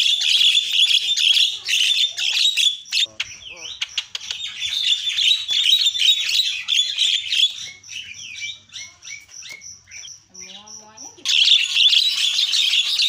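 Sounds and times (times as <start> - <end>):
bird chattering and whistling: 0.0 - 13.0
high bird peeps: 0.0 - 13.0.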